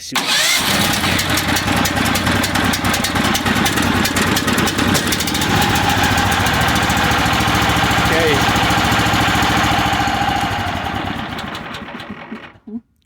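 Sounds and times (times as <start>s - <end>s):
gas engine starting and running: 0.0s - 12.7s.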